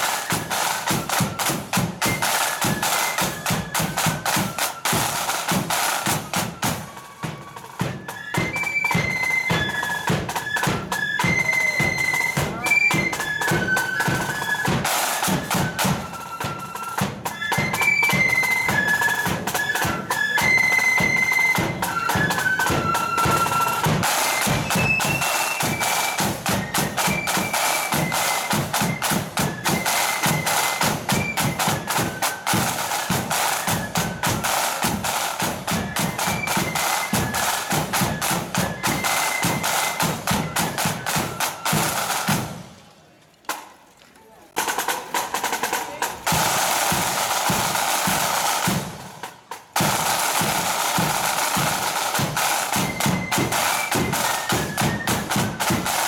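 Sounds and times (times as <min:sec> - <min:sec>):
flutes playing melody: 0:00.0 - 0:42.7, 0:45.5 - 0:56.0
snare drums rattling: 0:00.0 - 0:42.8, 0:44.5 - 0:56.0.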